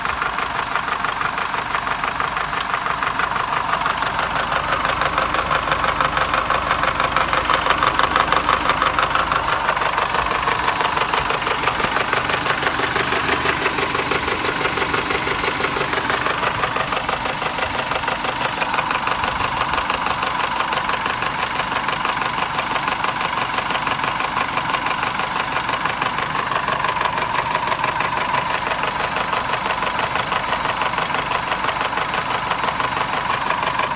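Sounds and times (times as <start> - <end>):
diesel engine idling with knock: 0.0 - 33.9.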